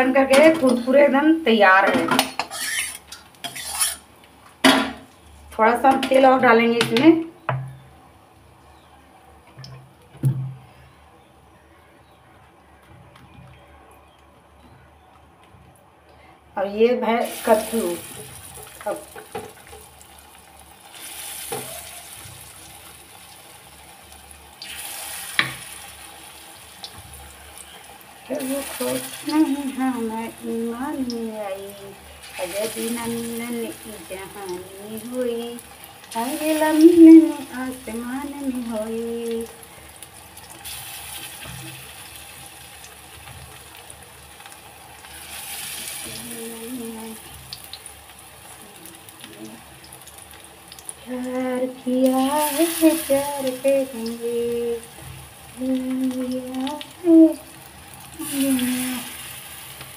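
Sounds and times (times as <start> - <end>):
oil sizzling in a pan: 0.0 - 8.7, 17.1 - 59.9.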